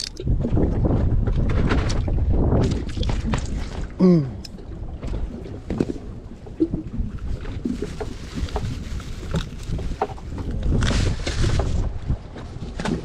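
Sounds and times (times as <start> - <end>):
water slapping against boat hull: 0.0 - 4.0, 4.6 - 13.0
wind rumbling on microphone: 0.0 - 13.0.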